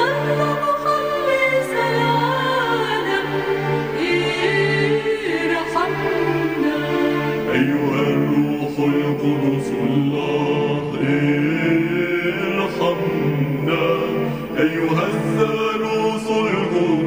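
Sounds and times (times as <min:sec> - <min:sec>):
steady musical accompaniment: 0:00.0 - 0:17.0
voices chanting a hymn: 0:00.0 - 0:17.0.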